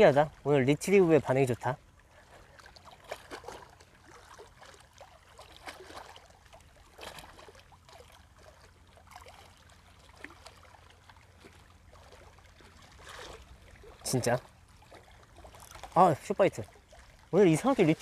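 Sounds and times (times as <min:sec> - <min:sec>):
small waves lapping on rocks: 0:00.0 - 0:18.0.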